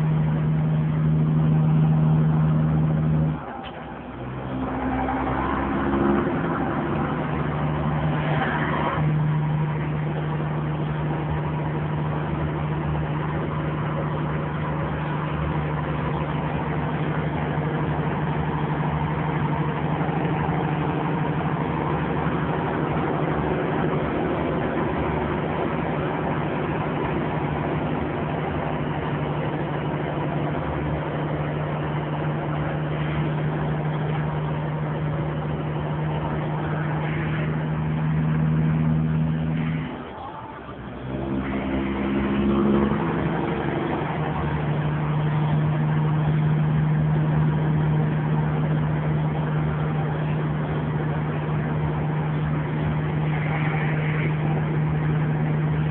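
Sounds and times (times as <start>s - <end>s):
truck diesel engine climbing: 0.0s - 55.9s.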